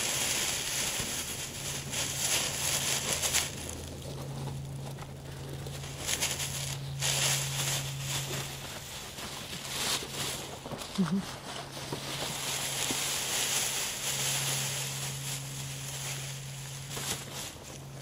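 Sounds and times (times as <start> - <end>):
dry grass rustling: 0.0 - 18.0
low steady hum: 0.0 - 18.0.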